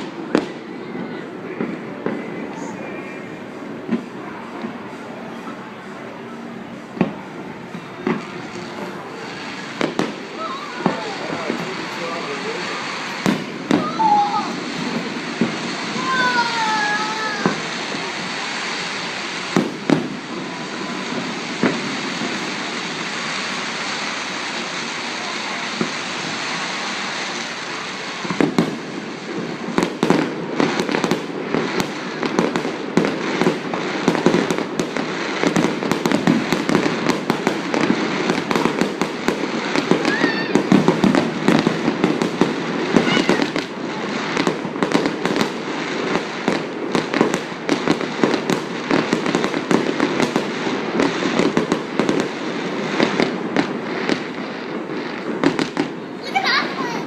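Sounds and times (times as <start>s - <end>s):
crowd hubbub: 0.0s - 57.0s
fireworks bangs and crackling: 0.0s - 57.0s
rising firework whistles: 0.0s - 57.0s.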